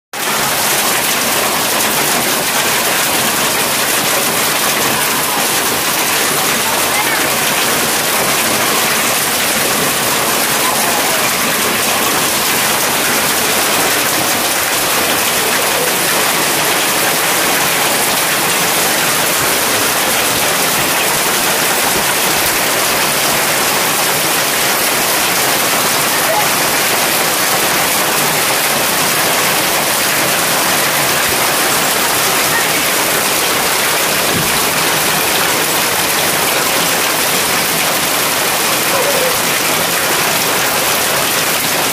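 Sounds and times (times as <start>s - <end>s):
heavy hail falling: 0.2s - 41.9s.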